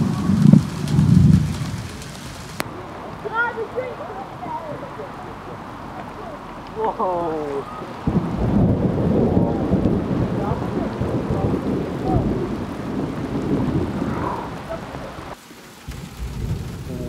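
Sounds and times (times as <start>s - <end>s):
thunder rumbling: 0.0s - 4.5s, 7.5s - 17.0s
steady rain: 0.0s - 17.0s.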